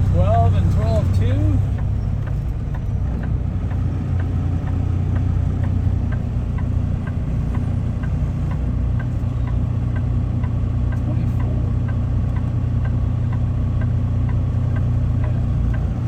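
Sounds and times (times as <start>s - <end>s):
truck diesel engine idling: 0.0s - 16.0s
light ticking: 0.2s - 16.0s.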